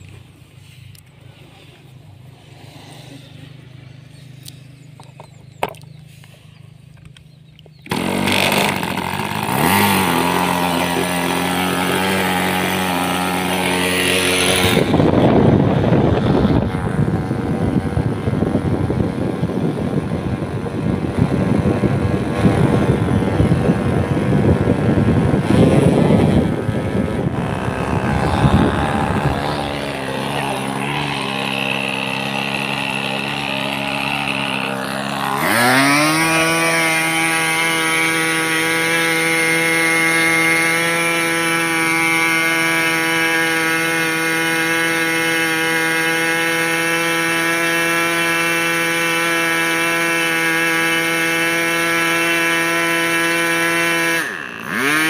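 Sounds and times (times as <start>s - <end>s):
model engine buzzing: 0.0s - 55.0s.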